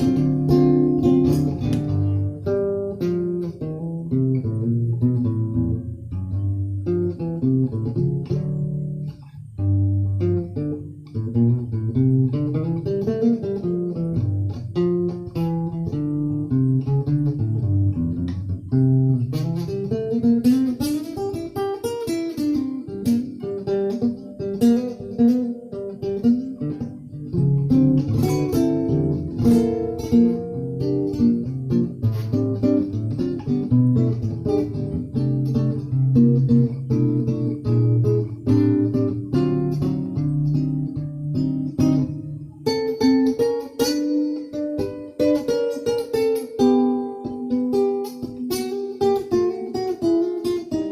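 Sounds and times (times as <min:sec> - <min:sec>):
plucked guitar notes: 0:00.0 - 0:50.9.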